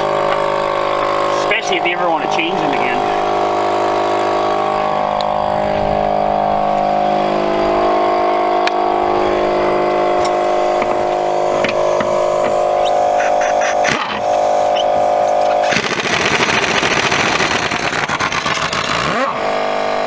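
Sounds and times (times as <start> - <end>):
air compressor motor droning: 0.0 - 20.0.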